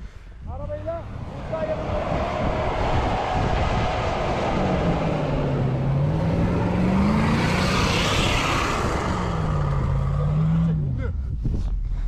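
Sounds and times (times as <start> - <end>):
tyres churning snow: 0.6 - 10.8.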